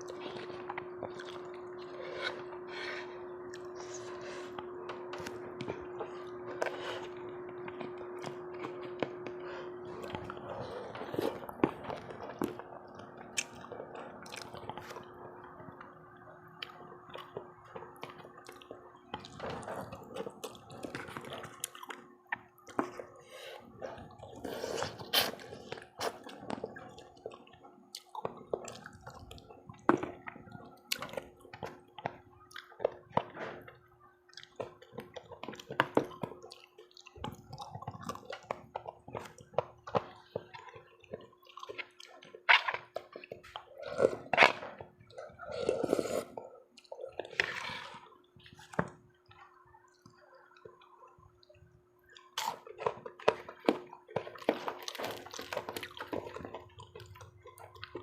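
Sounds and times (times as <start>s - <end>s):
faint steady hum: 0.0s - 58.0s
wet chewing and slurping soup: 0.0s - 58.0s.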